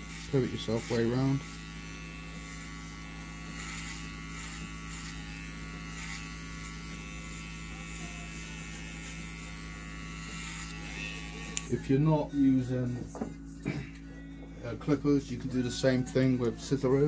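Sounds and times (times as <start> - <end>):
electric hair clippers humming: 0.0 - 17.0.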